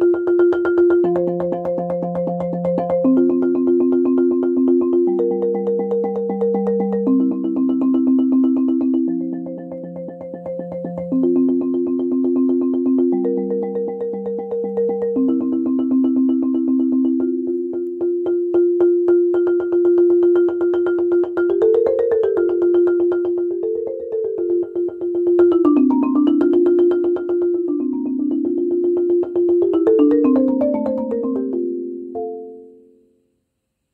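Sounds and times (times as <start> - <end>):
marimba played with mallets: 0.0 - 33.0.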